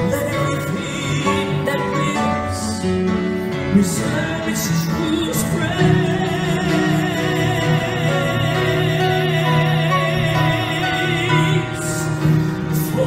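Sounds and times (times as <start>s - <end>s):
choir and instrumental accompaniment: 0.0s - 13.0s
man singing into microphone: 0.0s - 13.0s.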